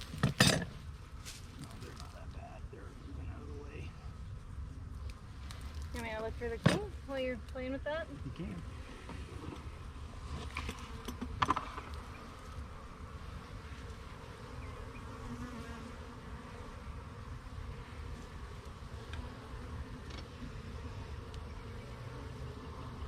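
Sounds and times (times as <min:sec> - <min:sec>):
honeybee colony buzzing: 0:00.0 - 0:23.0.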